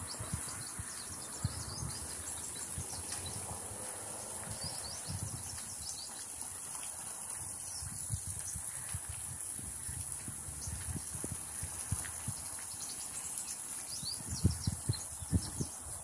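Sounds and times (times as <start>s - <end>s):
footsteps on brick path: 0.0s - 16.0s
small birds chirping: 0.0s - 16.0s
steady high hiss: 0.0s - 16.0s.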